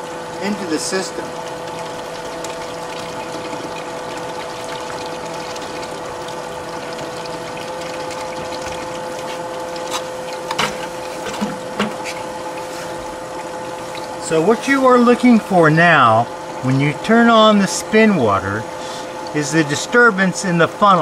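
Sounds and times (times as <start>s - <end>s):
constant hum: 0.0s - 21.0s
water running through tubing: 0.0s - 21.0s.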